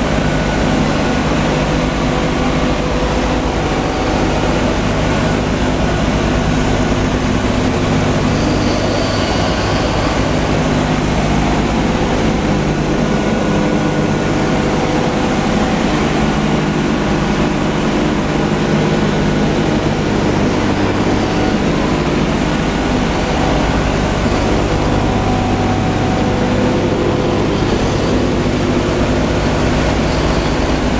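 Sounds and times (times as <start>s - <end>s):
aircraft engines droning: 0.0s - 30.9s.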